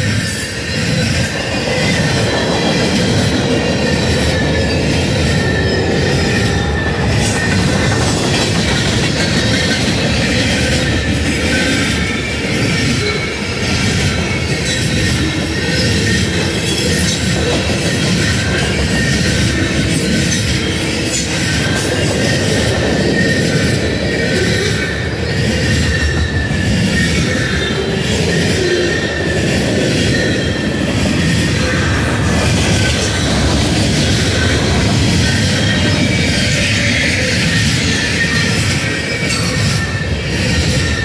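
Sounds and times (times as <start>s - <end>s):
high wheel squealing: 0.0s - 41.0s
train wheels rumbling on rails: 0.0s - 41.0s.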